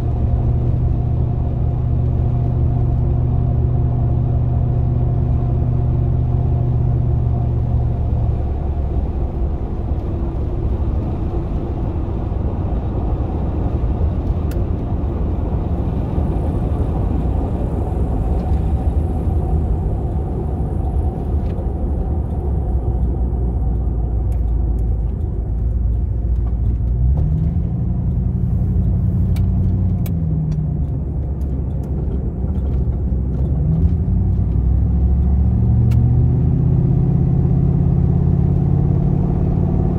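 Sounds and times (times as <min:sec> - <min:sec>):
road noise rumble: 0:00.0 - 0:39.9
van engine running: 0:00.0 - 0:39.9.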